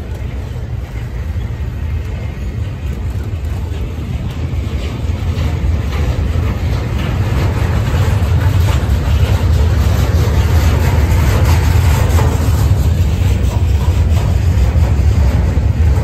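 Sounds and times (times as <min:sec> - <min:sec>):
freight train rumbling past: 0:00.0 - 0:16.0
train cars rattling and clanking: 0:00.0 - 0:16.0.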